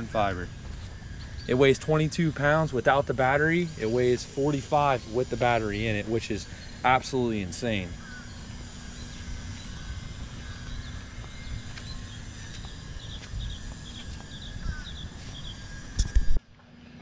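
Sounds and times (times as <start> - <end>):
bird chirping: 0.0 - 16.0
wind on microphone: 0.0 - 16.4
faint steady hum: 0.0 - 17.0.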